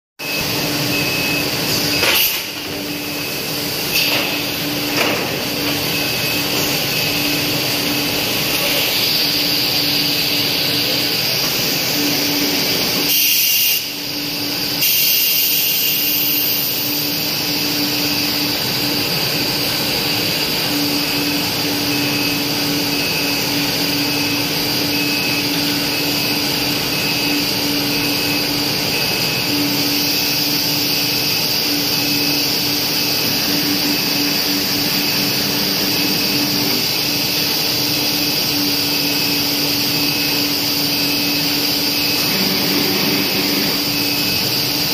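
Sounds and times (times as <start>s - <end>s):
loud machine noise with high whine: 0.2s - 44.9s.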